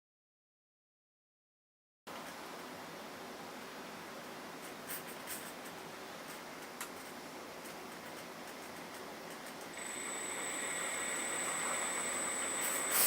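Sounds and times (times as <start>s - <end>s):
background hiss: 2.1s - 13.0s.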